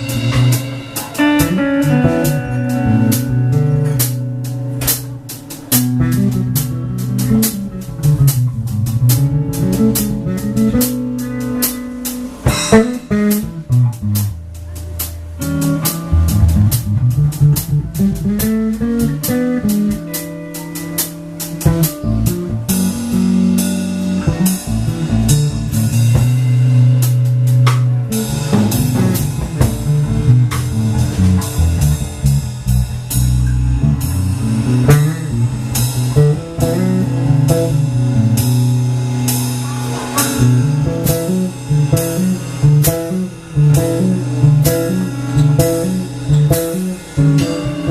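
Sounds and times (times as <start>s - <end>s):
bass guitar: 0.0s - 47.9s
drum kit steady beat: 0.0s - 47.9s
electric guitar: 0.0s - 47.9s.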